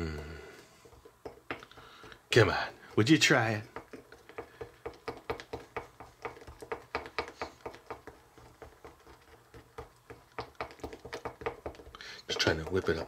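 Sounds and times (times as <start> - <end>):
spoon tapping mixing bowl: 0.8 - 13.0.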